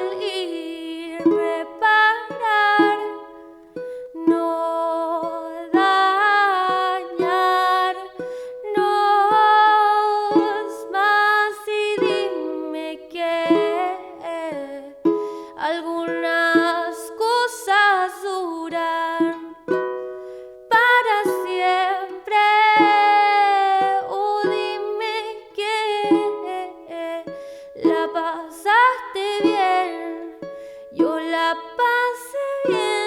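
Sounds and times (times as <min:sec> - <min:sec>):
person singing wordless melody: 0:00.0 - 0:33.0
ukulele strummed and plucked: 0:00.0 - 0:33.0.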